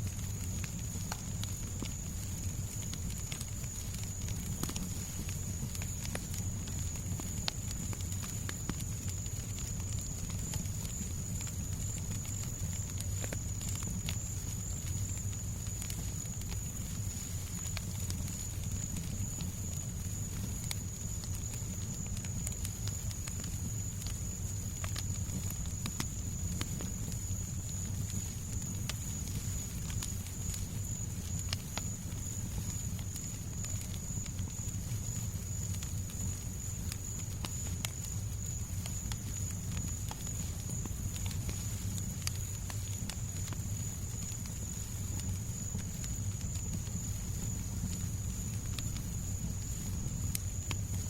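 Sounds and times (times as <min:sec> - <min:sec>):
fire crackling and popping: 0:00.0 - 0:51.0.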